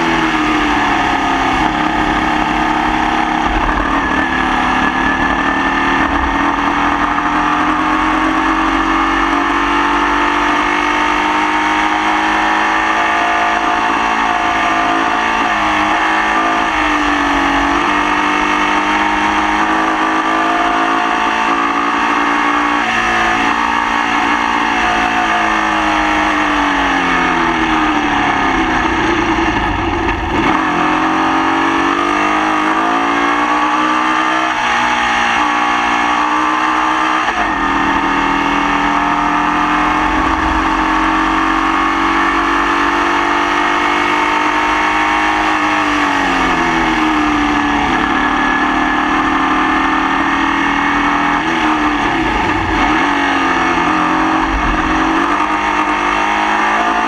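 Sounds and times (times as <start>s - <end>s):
race car engine under load: 0.0s - 57.0s.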